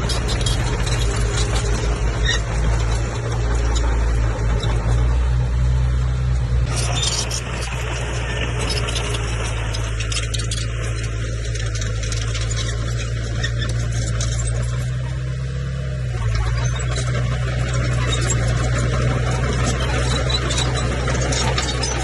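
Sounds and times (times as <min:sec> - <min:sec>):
bulldozer diesel engine running: 0:00.0 - 0:22.0
dense engine rattle: 0:00.0 - 0:22.0.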